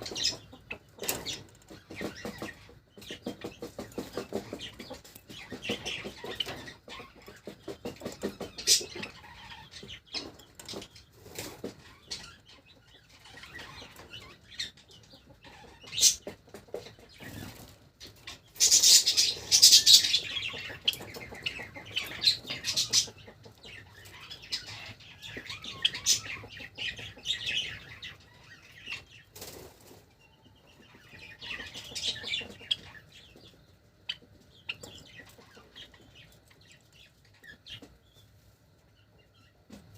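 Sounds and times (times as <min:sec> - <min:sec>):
birds chirping and clucking: 0:00.0 - 0:39.9.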